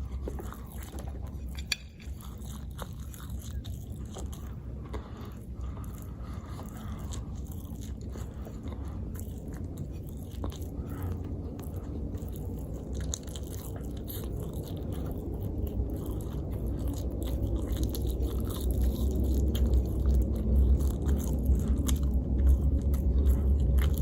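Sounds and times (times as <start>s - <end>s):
chewing and biting food: 0.0s - 24.0s
steady low rumble: 0.0s - 24.0s.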